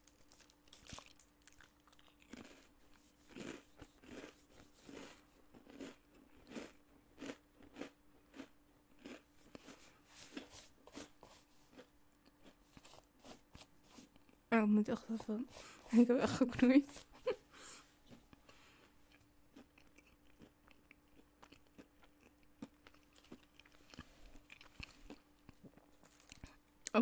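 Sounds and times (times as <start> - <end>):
cracker being bitten and chewed: 0.0 - 14.4, 18.1 - 26.8.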